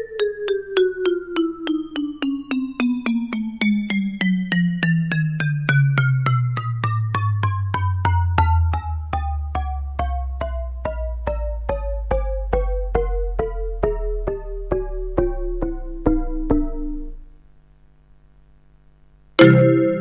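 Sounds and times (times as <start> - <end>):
digital piano descending notes: 0.0 - 17.4, 19.4 - 20.0.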